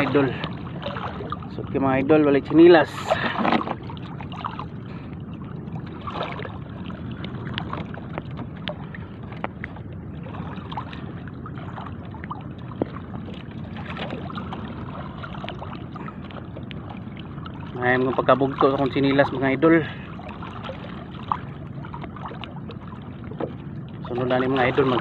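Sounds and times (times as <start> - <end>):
small splashes and drips: 0.0 - 1.6, 5.8 - 25.0
legs sloshing through water: 0.0 - 25.0.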